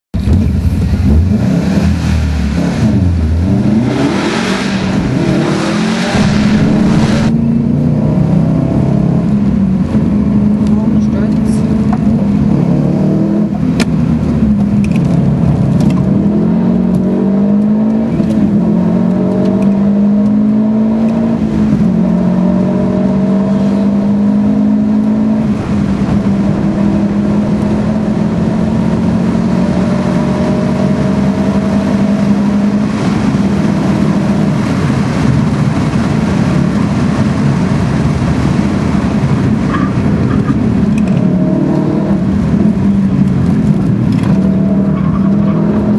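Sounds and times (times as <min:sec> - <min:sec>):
car engine accelerating hard: 0:00.2 - 0:45.9.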